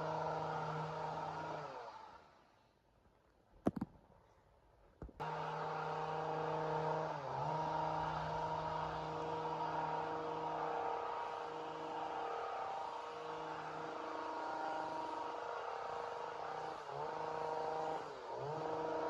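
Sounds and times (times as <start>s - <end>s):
chainsaw running at high revs: 0.0s - 2.4s, 5.2s - 19.0s.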